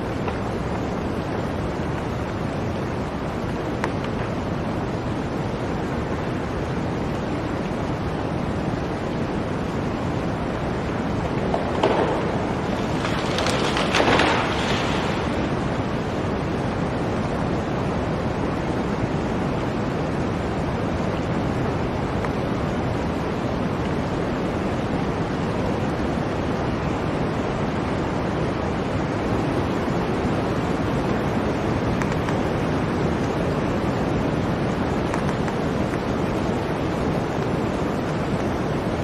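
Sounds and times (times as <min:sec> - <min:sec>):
blizzard wind blowing: 0:00.0 - 0:39.0.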